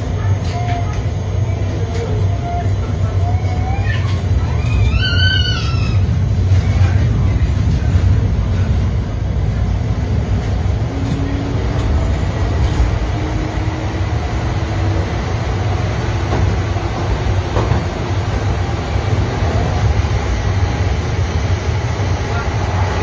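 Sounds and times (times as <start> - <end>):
metro train rumbling: 0.0 - 23.0.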